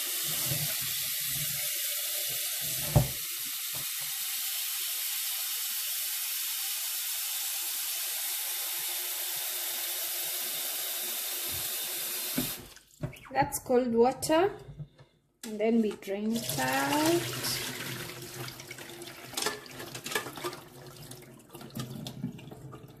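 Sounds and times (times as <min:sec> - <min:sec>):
tap water running into pot: 0:00.0 - 0:13.0, 0:15.8 - 0:23.0.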